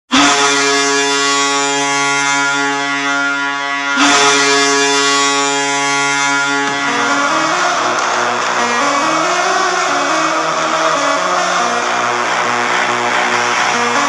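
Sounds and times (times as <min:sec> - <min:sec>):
arena goal horn blasting: 0:00.1 - 0:14.0.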